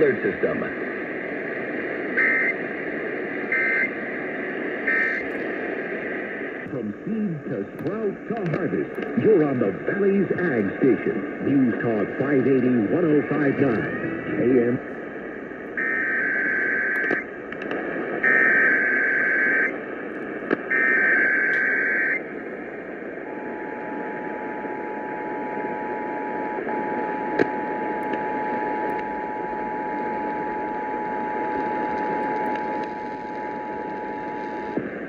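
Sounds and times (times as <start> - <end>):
radio static hiss: 0.0 - 35.0.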